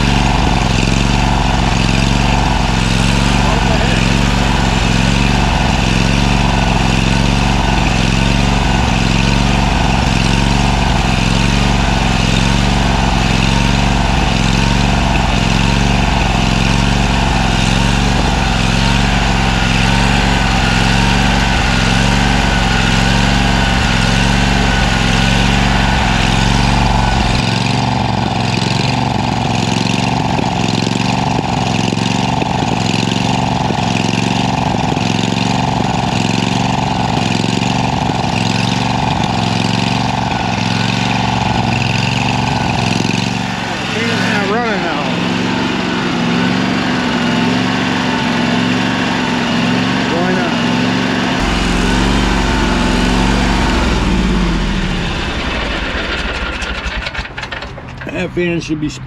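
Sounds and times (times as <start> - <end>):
mower engine running: 0.0 - 59.0.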